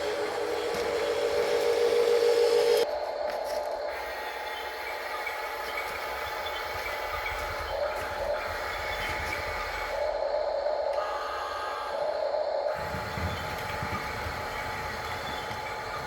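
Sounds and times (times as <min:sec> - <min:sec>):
model machinery whirring: 0:00.0 - 0:02.9, 0:03.8 - 0:16.0.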